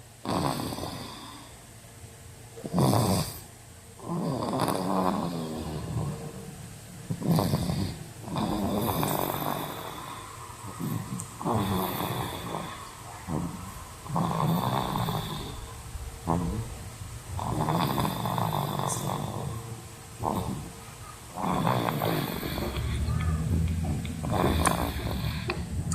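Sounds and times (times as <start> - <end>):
toddler snoring: 0.2 - 1.6, 2.6 - 6.4, 7.1 - 25.9.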